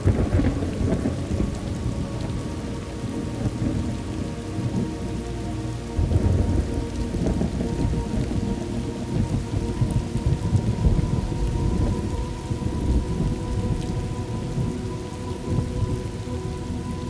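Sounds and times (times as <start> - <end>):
rolling thunder rumbles: 0.0 - 5.2, 5.9 - 17.0
steady rain: 0.0 - 17.0.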